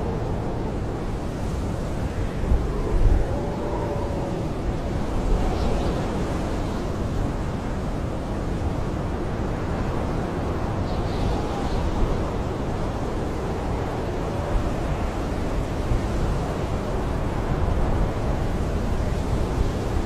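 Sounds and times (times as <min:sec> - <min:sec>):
blizzard wind howling: 0:00.0 - 0:20.0.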